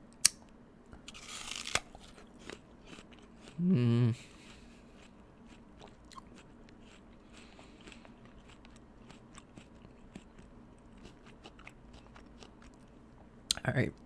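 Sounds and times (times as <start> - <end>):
chewing apple with crisp crunches: 1.0 - 13.6.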